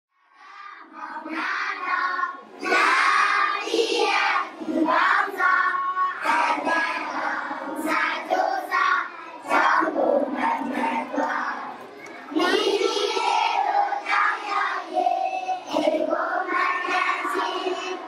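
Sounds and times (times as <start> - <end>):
children singing in unison: 0.2 - 18.0.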